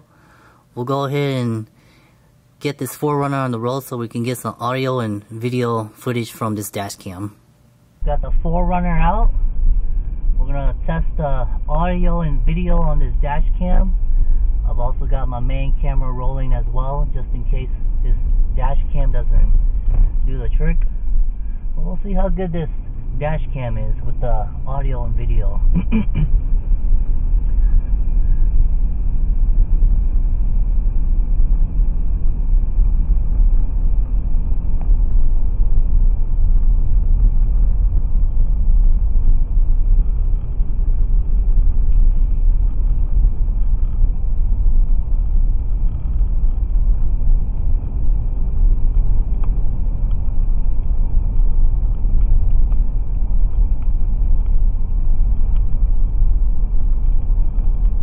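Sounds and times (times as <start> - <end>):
car engine rumble: 7.1 - 58.0.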